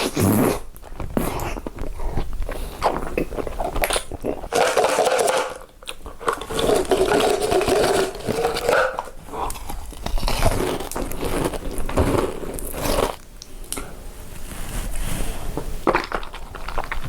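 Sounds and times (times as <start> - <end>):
person chewing crunchy food: 0.0 - 13.9, 15.8 - 17.0.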